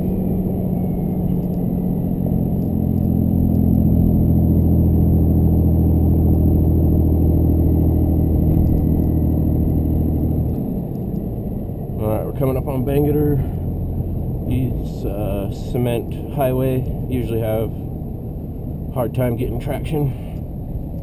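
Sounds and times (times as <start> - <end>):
diesel engine droning in cab: 0.0 - 21.0.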